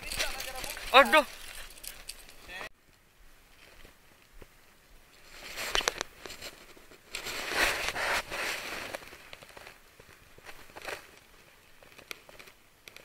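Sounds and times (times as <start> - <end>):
rustling crackling noise: 0.0 - 13.0.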